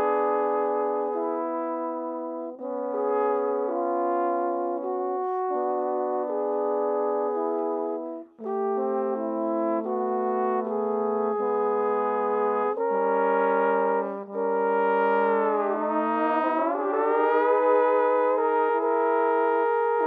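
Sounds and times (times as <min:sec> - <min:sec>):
trombones playing held chords: 0:00.0 - 0:20.0.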